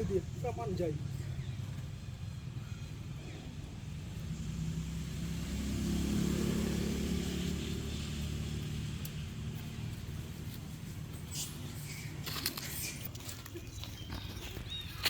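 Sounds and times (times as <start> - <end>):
vehicle engine passing: 0.0 - 12.3.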